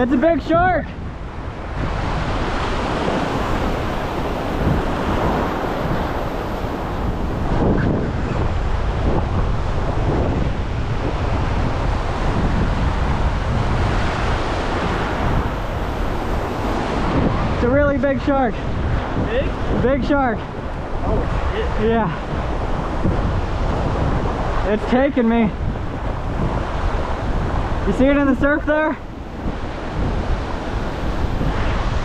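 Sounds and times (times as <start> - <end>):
ocean surf washing onto beach: 0.0 - 32.0
wind buffeting microphone: 0.0 - 32.0.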